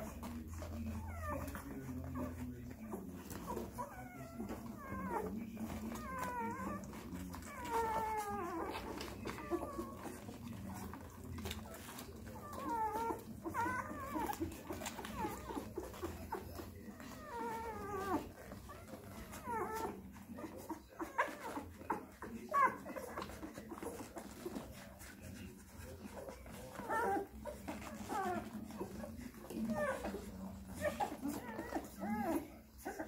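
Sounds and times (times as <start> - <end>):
puppies whimpering and squeaking: 0.0 - 33.0.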